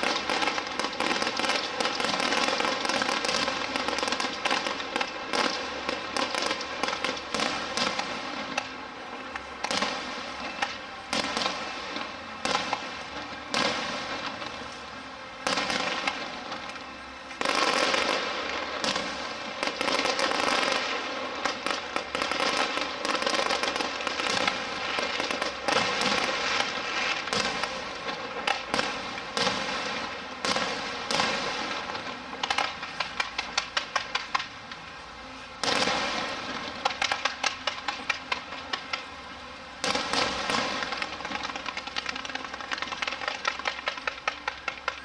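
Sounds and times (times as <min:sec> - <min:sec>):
fireworks crackling and popping: 0:00.0 - 0:45.0.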